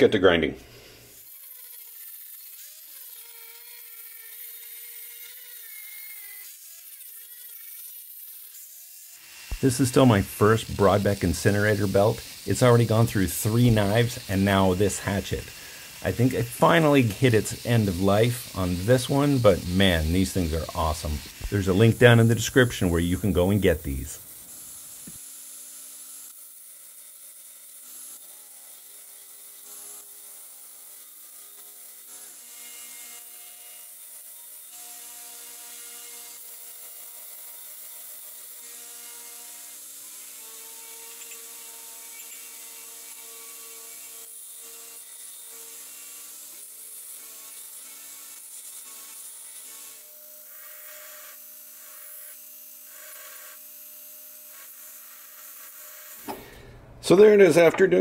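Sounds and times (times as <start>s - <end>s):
belt grinder grinding metal: 0.7s - 56.7s.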